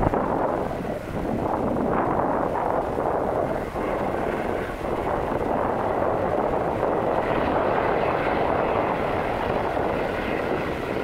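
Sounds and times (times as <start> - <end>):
jet engines running loud: 0.0 - 11.0
wind buffeting microphone: 0.0 - 11.0.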